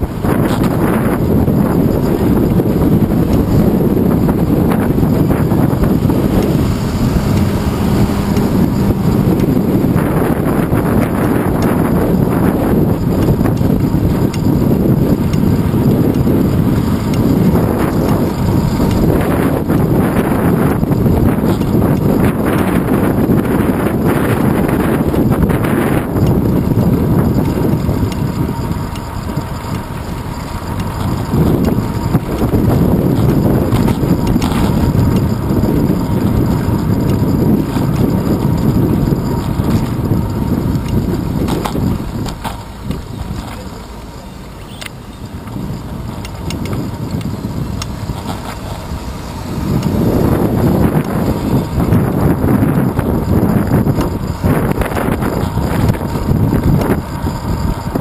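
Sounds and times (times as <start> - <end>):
road rumble: 0.0 - 58.0
wind buffeting microphone: 0.0 - 58.0.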